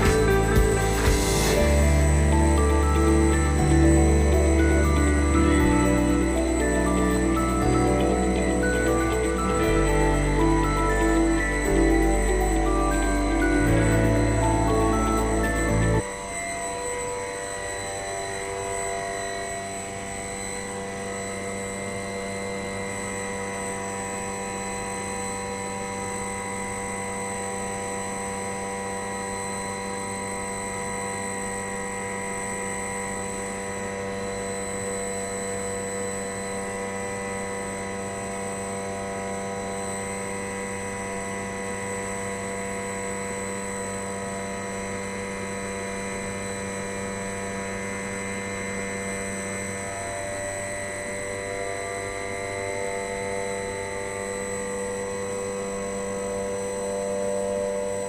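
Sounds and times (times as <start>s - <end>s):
compressor humming and whining: 0.0s - 58.0s.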